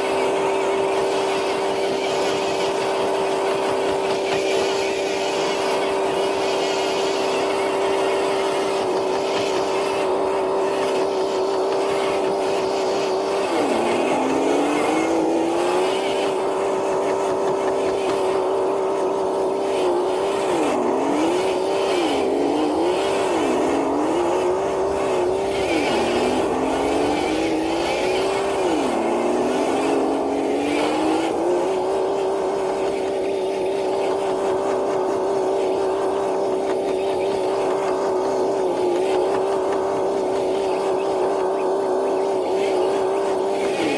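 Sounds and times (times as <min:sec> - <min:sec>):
electric motor whining: 0:00.0 - 0:43.9.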